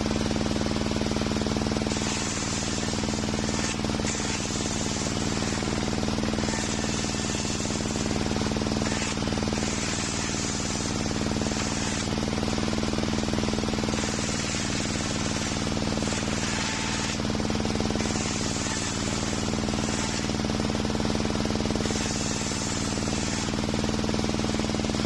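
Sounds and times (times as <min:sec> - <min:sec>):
table saw motor humming: 0:01.2 - 0:25.0
saw blade cutting wood: 0:01.9 - 0:20.8, 0:21.6 - 0:23.8.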